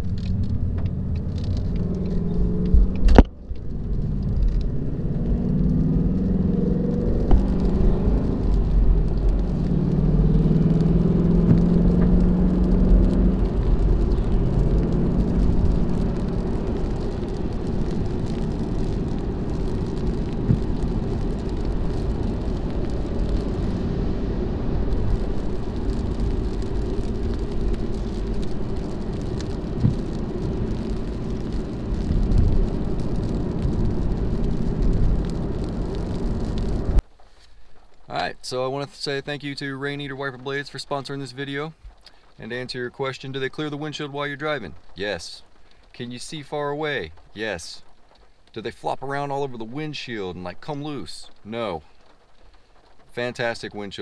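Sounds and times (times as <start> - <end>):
car engine rumble: 0.0 - 54.0
tyre and road noise: 0.0 - 54.0.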